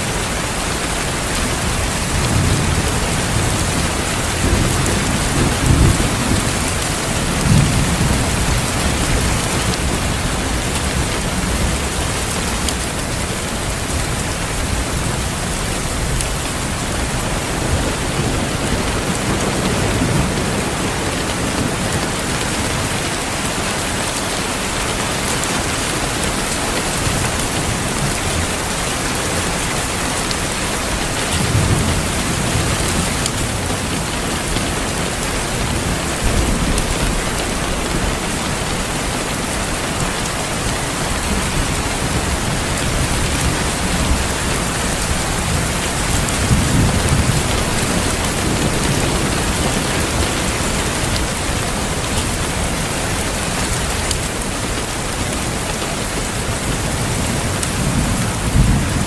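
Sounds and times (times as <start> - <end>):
heavy rain: 0.0 - 59.0
thunder rumbling: 0.1 - 59.0.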